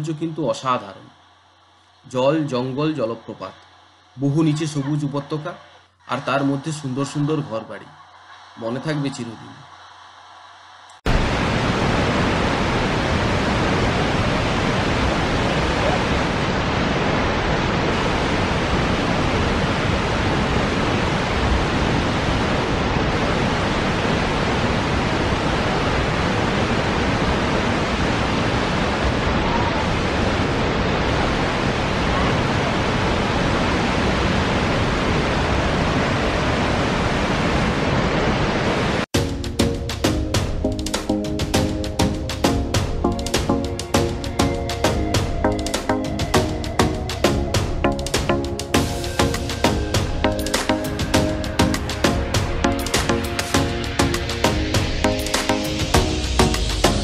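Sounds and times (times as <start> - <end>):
waterfall rushing: 6.2 - 39.1, 41.6 - 57.0.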